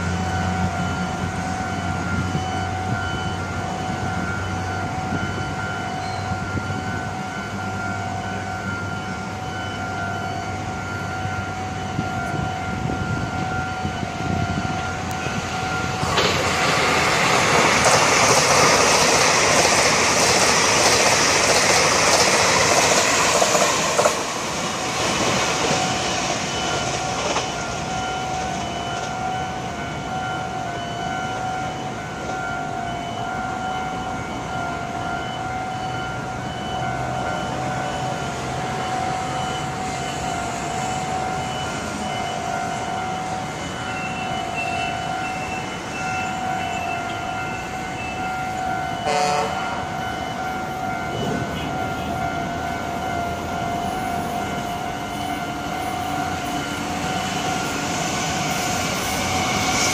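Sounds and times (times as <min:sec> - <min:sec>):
level crossing signal ringing: 0:00.0 - 0:59.9
train wheels rushing on rail: 0:00.0 - 0:59.9.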